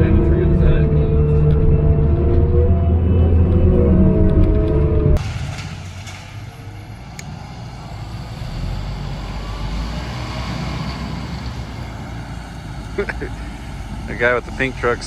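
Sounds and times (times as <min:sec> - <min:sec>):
heavy machinery engine rumbling: 0:00.0 - 0:15.0.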